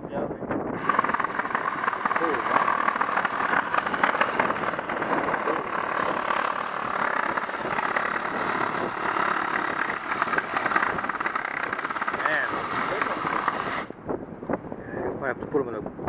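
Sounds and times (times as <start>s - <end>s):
reciprocating saw cutting wood: 0.8s - 14.0s.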